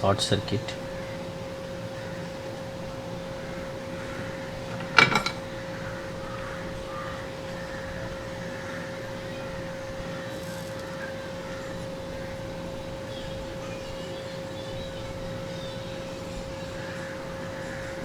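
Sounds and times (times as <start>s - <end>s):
background hum with thin tone: 0.0s - 18.0s.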